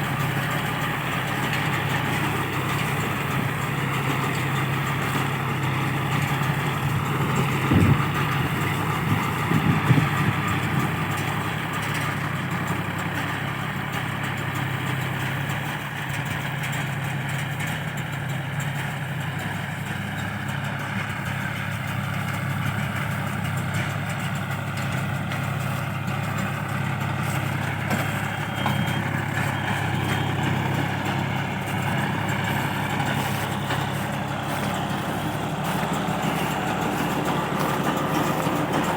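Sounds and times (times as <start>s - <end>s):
baler machinery noise: 0.0s - 38.9s
tractor engine drone: 0.0s - 38.9s.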